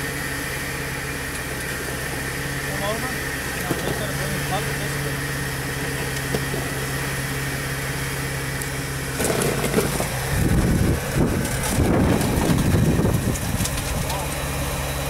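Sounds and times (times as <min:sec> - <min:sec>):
jeep engine idling and revving: 0:00.0 - 0:15.0.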